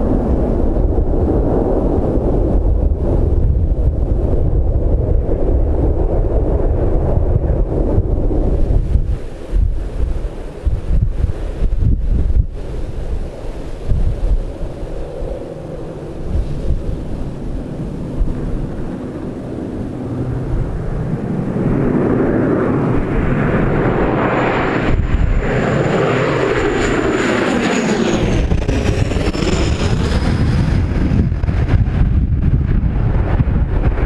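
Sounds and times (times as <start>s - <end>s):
turboprop plane passing overhead: 0.0s - 34.0s
wind buffeting microphone: 0.0s - 34.0s.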